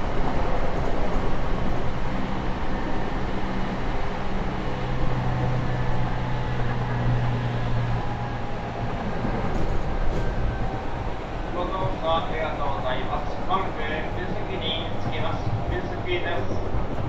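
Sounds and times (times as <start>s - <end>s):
low traction motor hum: 0.0s - 17.0s
train wheels rumbling on rail: 0.0s - 17.0s.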